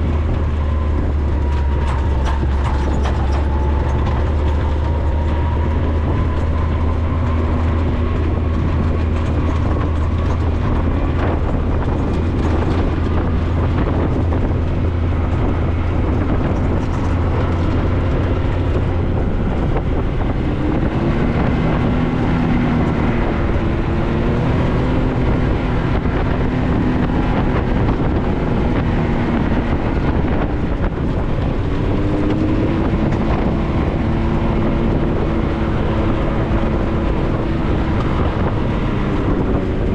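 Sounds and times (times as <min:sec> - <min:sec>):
vehicle engine driving: 0:00.0 - 0:39.9.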